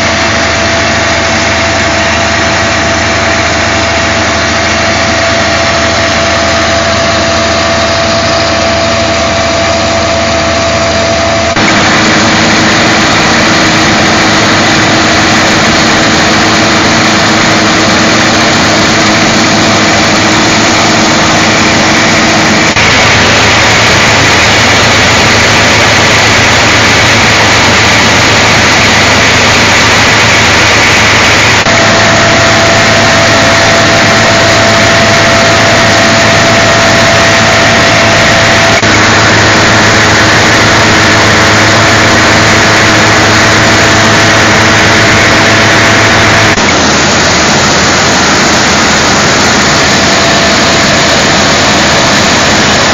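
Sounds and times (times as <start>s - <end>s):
machine engine running: 0.0s - 52.9s.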